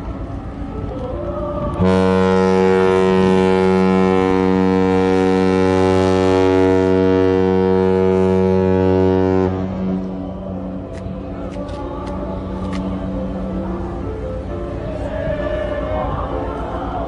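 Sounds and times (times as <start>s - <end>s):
ship's horn blast: 1.0s - 16.5s.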